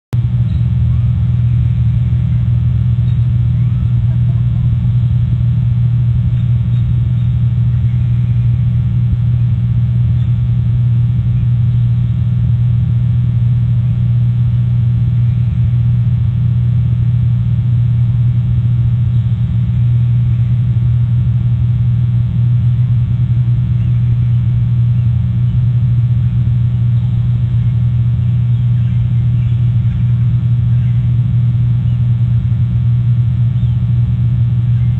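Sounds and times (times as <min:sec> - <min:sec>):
steady low hum: 0:00.1 - 0:34.9.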